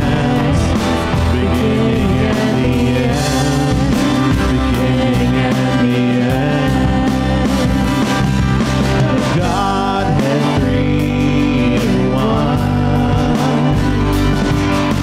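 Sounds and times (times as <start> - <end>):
bass guitar: 0.0 - 15.0
drum kit with cymbals: 0.0 - 15.0
electric guitar: 0.0 - 15.0
person singing: 0.0 - 15.0.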